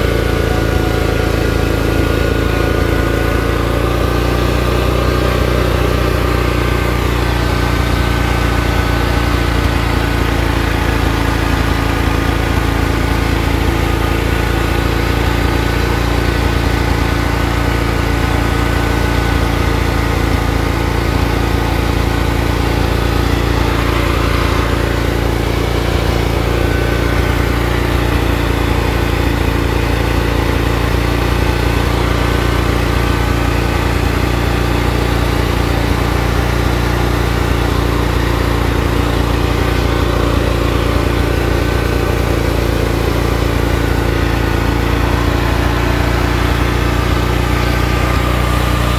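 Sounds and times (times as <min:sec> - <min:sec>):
lawn tractor engine running: 0:00.0 - 0:48.9.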